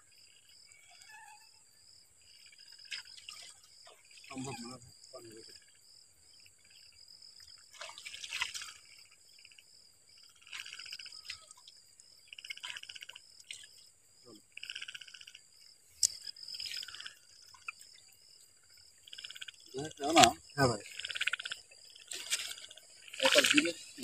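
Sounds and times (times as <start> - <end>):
frogs croaking: 0.0 - 24.0
insects trilling: 0.0 - 24.0.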